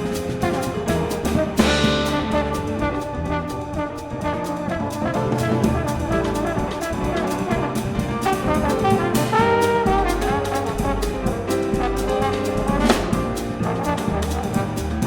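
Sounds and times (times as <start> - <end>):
bass: 0.0 - 15.0
drums: 0.0 - 15.0
piano: 0.0 - 15.0
trombone holding notes: 0.4 - 15.0.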